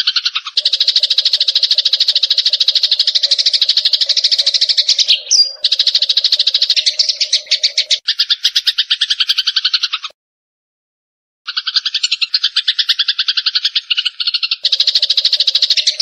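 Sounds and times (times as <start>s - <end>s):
sparrows chirping: 0.0s - 10.2s, 11.5s - 16.0s.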